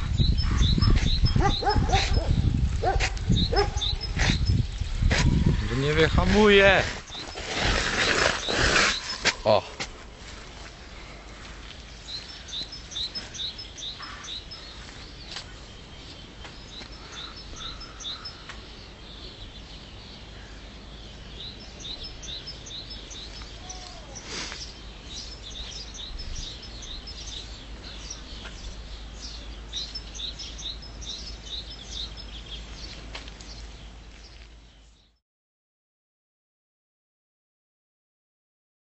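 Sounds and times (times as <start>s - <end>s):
bird singing high chirps: 0.0s - 9.6s, 12.0s - 20.3s, 20.9s - 35.2s.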